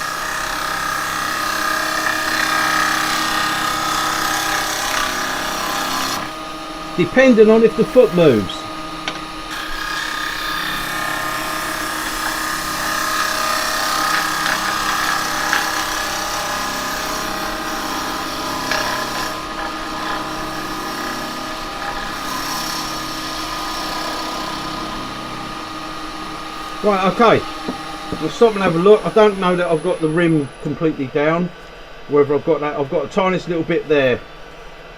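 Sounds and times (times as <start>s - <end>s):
gouge scraping spinning wood: 0.0s - 30.7s
lathe motor hum: 0.0s - 32.1s.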